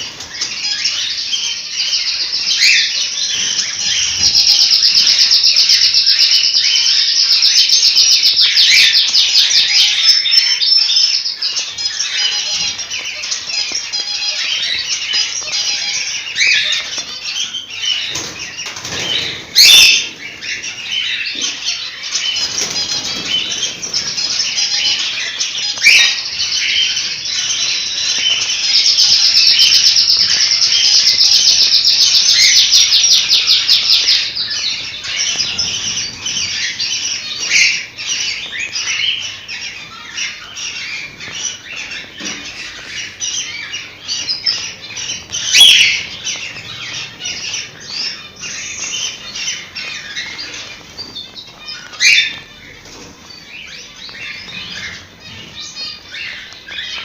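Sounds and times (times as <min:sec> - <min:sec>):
cockatiels chirping and chattering: 0:00.0 - 0:57.0.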